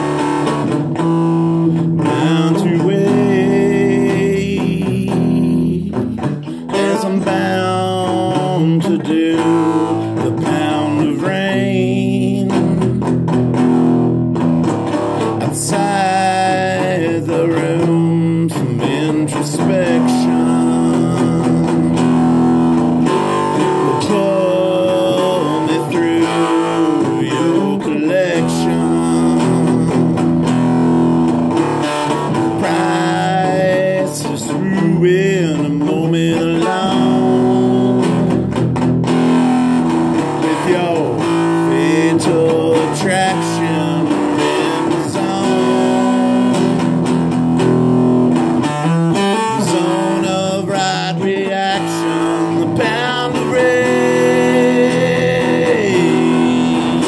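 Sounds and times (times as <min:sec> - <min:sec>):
electric guitar strumming: 0:00.0 - 0:57.0
man singing: 0:01.4 - 0:13.3, 0:15.0 - 0:30.9, 0:31.5 - 0:47.7, 0:48.4 - 0:57.0.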